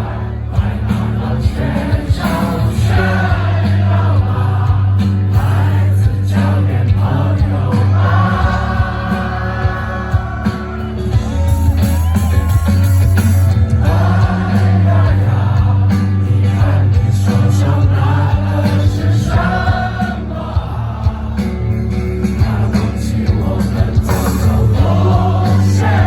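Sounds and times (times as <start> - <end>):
heavy bass: 0.0 - 26.0
live rock band playing: 0.0 - 26.0.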